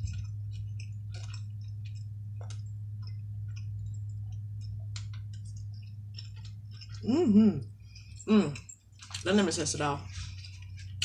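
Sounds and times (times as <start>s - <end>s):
person chewing: 0.0s - 9.3s
steady low hum: 0.0s - 11.0s.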